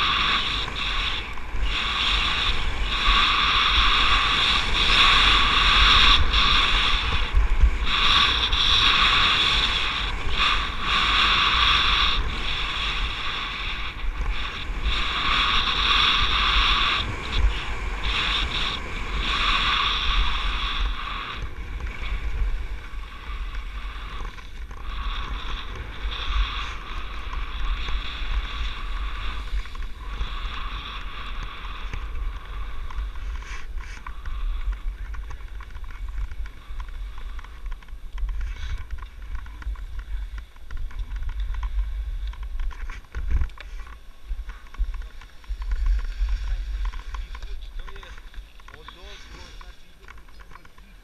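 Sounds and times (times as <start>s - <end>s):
skis hissing on packed snow: 0.0s - 37.6s, 42.9s - 51.0s
wind buffeting microphone: 0.0s - 51.0s.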